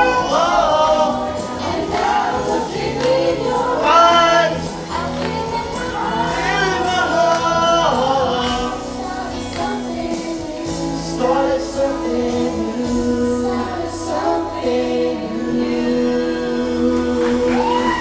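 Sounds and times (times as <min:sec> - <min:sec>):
backing music: 0:00.0 - 0:18.0
man and woman singing pop song: 0:00.0 - 0:18.0.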